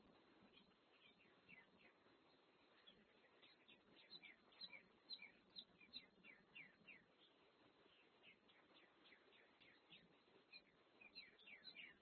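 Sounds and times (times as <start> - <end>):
low microphone hiss: 0.0 - 12.0
small songbirds chirping: 0.0 - 12.0.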